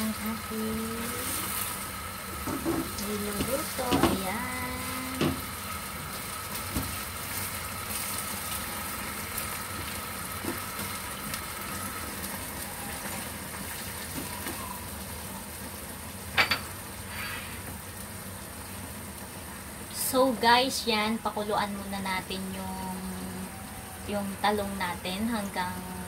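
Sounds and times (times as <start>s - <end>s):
bubbling sizzle in a frying pan: 0.0s - 26.0s.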